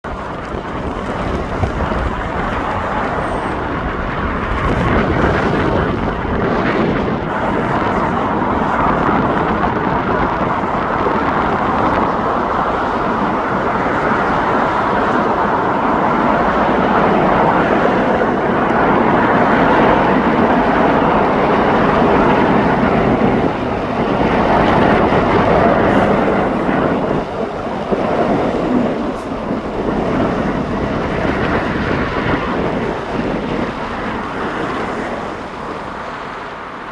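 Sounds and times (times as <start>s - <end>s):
jet engines passing overhead: 0.0s - 36.9s.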